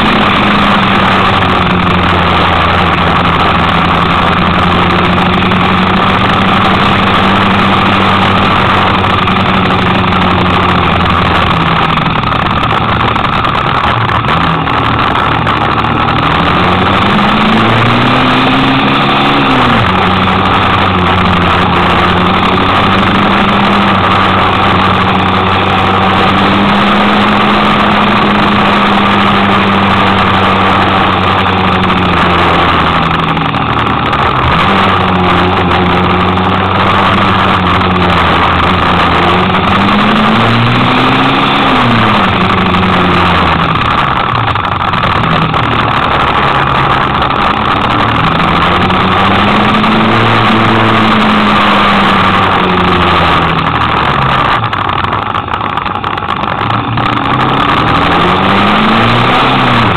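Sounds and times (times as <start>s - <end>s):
motorcycle engine running: 0.0s - 59.9s
road noise: 0.0s - 59.9s
wind noise: 0.0s - 59.9s.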